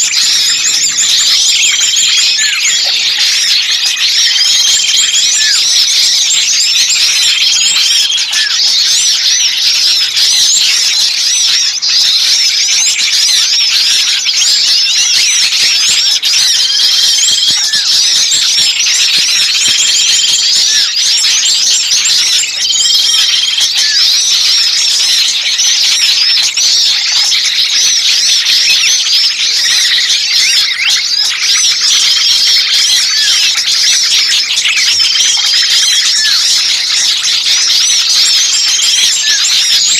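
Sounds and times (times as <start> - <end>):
songbirds chirping agitatedly: 0.0 - 39.9.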